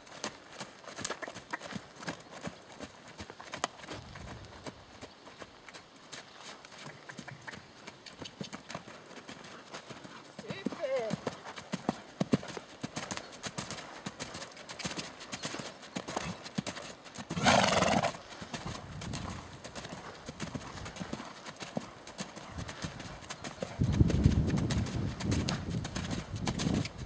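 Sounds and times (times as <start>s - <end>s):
horse hooves on sand: 0.0s - 27.0s.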